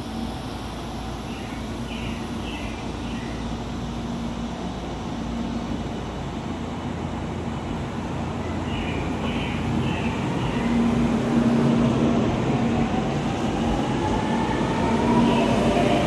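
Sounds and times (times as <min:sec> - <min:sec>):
train rumbling with hum: 0:00.0 - 0:16.0.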